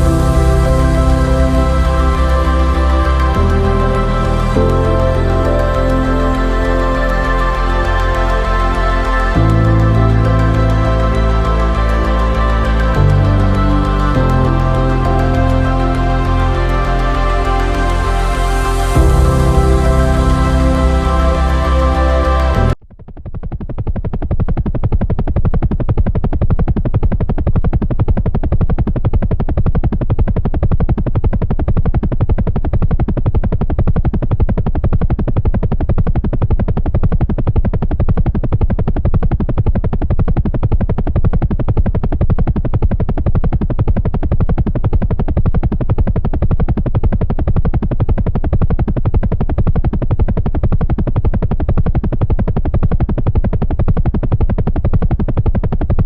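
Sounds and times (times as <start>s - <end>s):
helicopter rotor beating: 0.0s - 56.0s.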